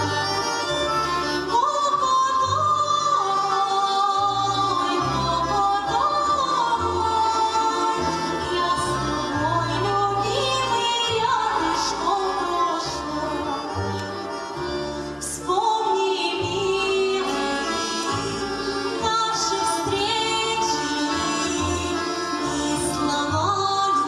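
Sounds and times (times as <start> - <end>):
instrumental backing with bass: 0.0 - 24.0
woman singing: 1.3 - 13.8, 15.2 - 24.0.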